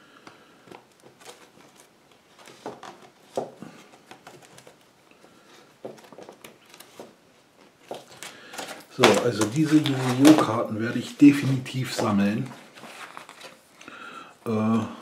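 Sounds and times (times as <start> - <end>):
plastic sheets rustling: 0.6 - 14.0.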